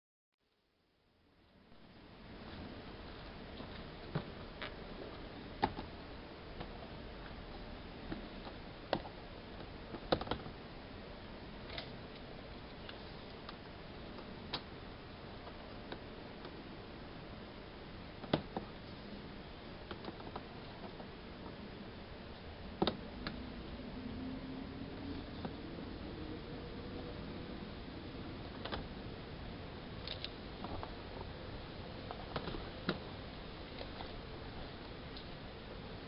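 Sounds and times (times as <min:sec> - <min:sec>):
faint steady hiss: 0:00.4 - 0:36.0.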